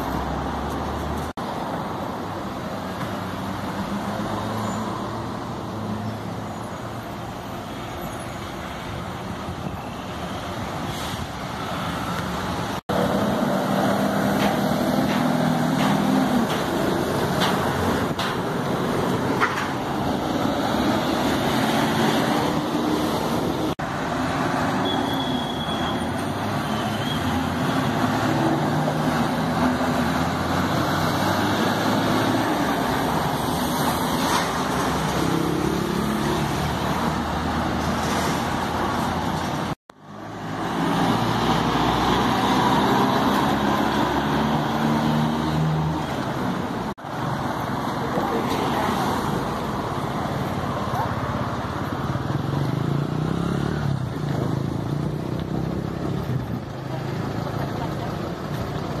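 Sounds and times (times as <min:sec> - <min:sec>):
buses and cars driving past: 0:00.0 - 0:59.0.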